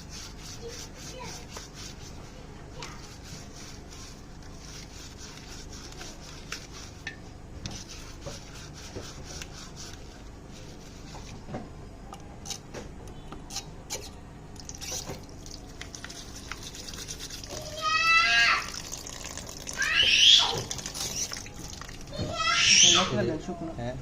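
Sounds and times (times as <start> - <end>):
parts scraping: 0.0 - 18.0, 20.4 - 21.8.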